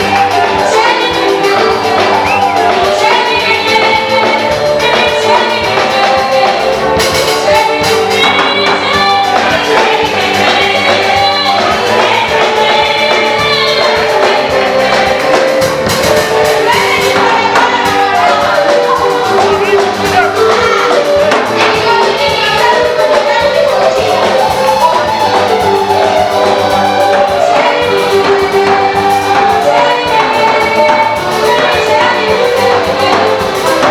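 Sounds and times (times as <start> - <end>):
band with drums beat: 0.0 - 33.9
choir singing gospel in harmony: 0.0 - 33.9.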